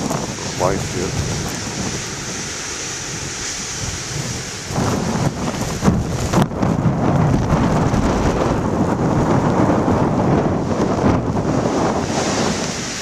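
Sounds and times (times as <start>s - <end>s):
surf breaking on rocks: 0.0s - 13.0s
wind buffeting microphone: 0.0s - 13.0s.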